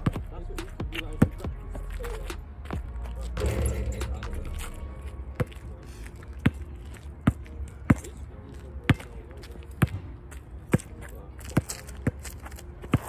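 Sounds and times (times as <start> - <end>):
basketball bouncing on asphalt: 0.0 - 2.9, 4.8 - 5.7, 6.3 - 13.0.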